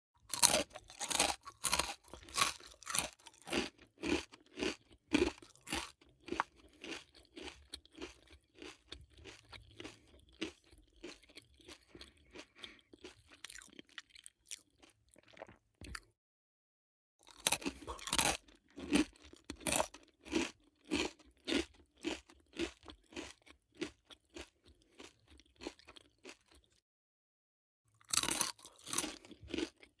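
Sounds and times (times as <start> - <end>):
crunching potato chips: 0.2 - 16.0, 17.2 - 26.8, 27.9 - 30.0.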